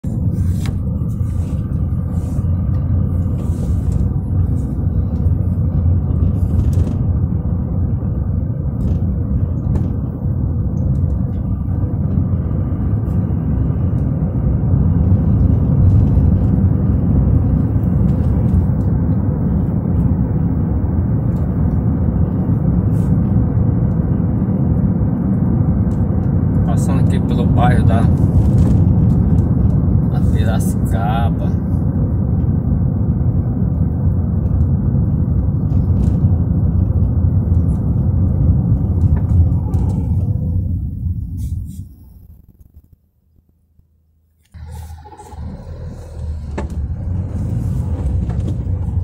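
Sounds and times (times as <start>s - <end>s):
tyres on asphalt: 0.0s - 43.6s, 44.3s - 49.0s
car engine rumble: 0.0s - 49.0s.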